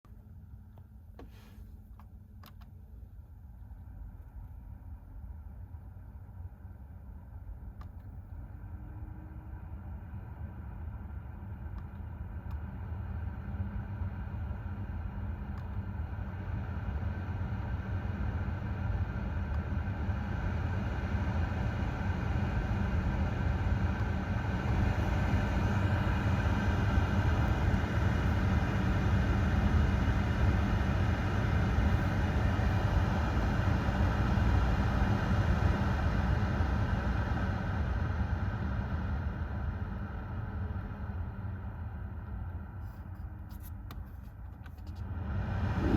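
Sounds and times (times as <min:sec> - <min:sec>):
heater blower fan humming: 0:00.0 - 0:45.9.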